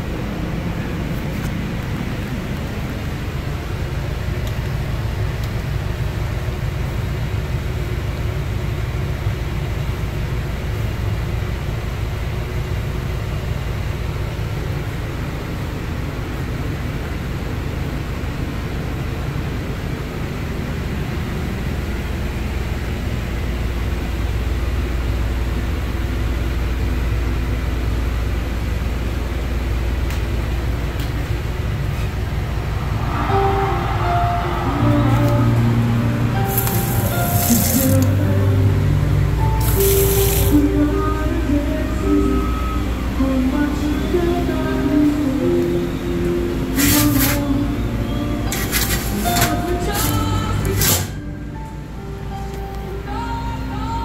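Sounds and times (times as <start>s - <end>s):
low machine rumble: 0.0s - 54.0s.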